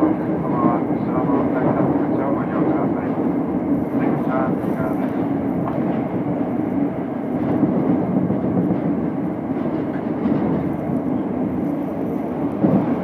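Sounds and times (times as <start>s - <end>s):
subway train running on rails: 0.0s - 13.0s.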